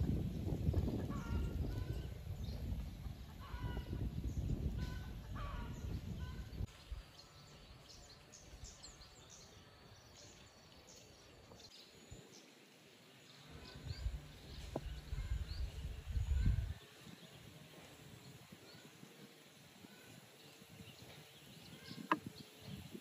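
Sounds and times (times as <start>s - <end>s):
wind rumble on microphone: 0.0s - 9.4s, 13.4s - 23.0s
birds chirping: 0.0s - 23.0s.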